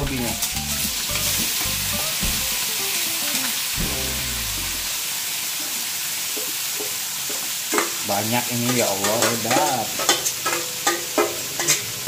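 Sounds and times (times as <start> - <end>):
oil sizzling in a wok: 0.0 - 12.0.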